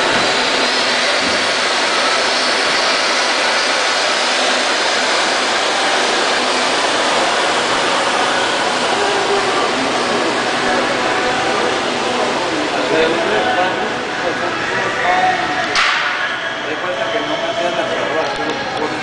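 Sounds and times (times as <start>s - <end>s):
oven steam hissing: 0.0s - 19.0s.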